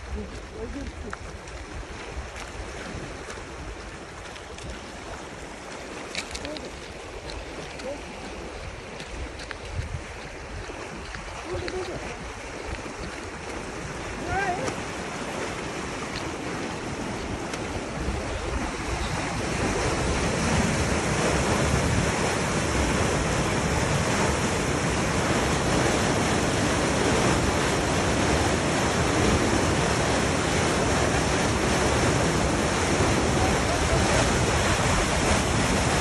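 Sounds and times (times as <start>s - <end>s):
water gushing into canal: 0.0s - 36.0s.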